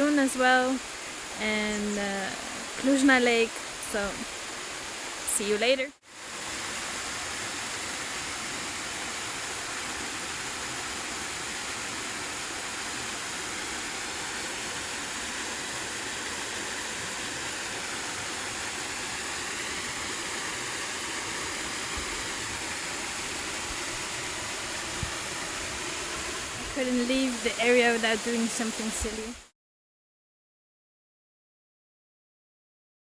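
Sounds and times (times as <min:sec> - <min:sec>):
waterfall rushing: 0:00.0 - 0:29.4.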